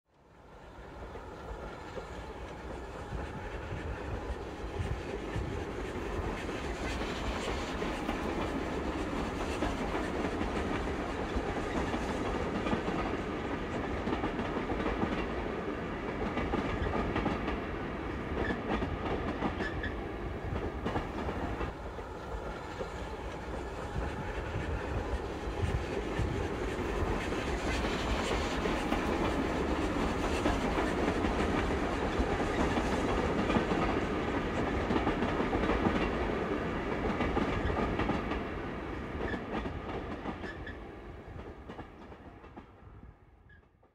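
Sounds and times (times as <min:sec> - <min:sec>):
steam train rumbling: 0:00.3 - 0:43.1.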